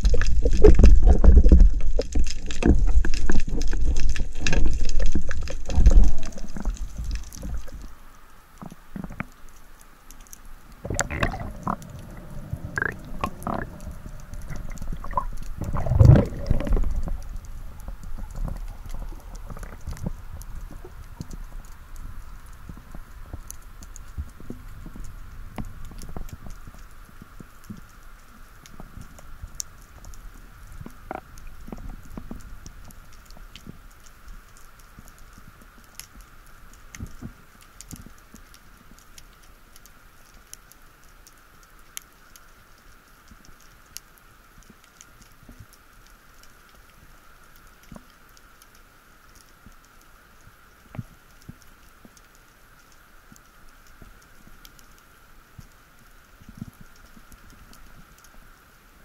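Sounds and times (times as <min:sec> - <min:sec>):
low rumble of water movement: 0:00.0 - 0:59.0
sharp underwater clicks and crackles: 0:00.0 - 0:59.0.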